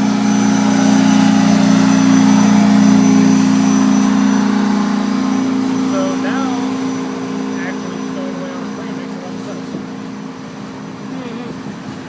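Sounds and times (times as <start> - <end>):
train locomotive droning: 0.0 - 12.0.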